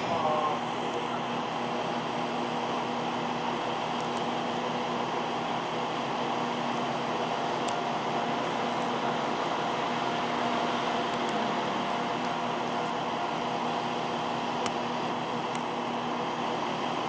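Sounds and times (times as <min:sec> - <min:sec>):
diesel railcar idling: 0:00.0 - 0:17.0
faint steady tones: 0:00.0 - 0:17.0.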